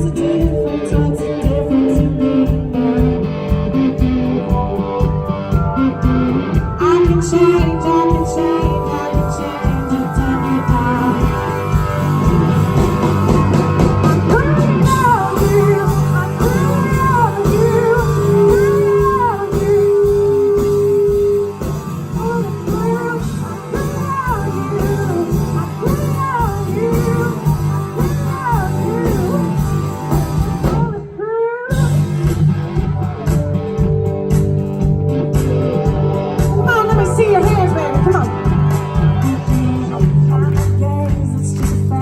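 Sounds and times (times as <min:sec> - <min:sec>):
blues-rock band playing: 0:00.0 - 0:31.1, 0:31.7 - 0:42.0
electric guitar lead: 0:00.0 - 0:42.0.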